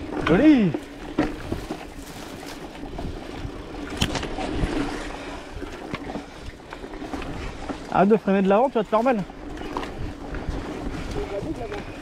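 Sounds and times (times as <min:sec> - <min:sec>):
bike rattling and clicking: 0:00.0 - 0:12.0
bike tyres rolling on dirt: 0:00.0 - 0:12.0.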